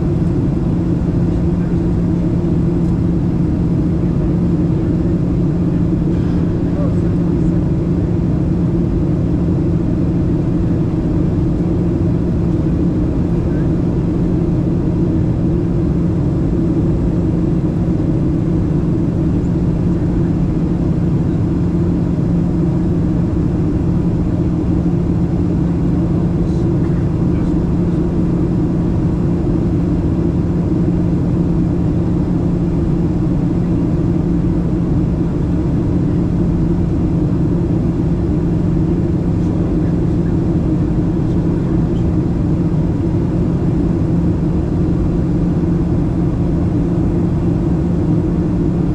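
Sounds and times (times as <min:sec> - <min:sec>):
airplane cabin engine drone: 0:00.0 - 0:48.9.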